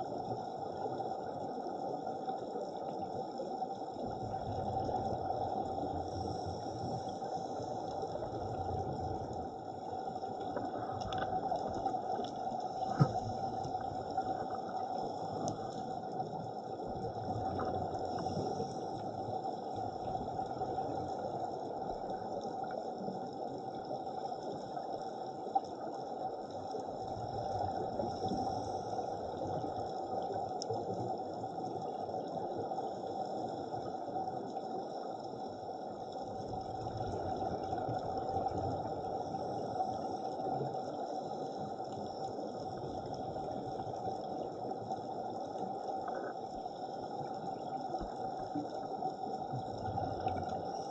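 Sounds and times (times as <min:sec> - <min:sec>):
underwater hiss and rumble: 0:00.0 - 0:50.9.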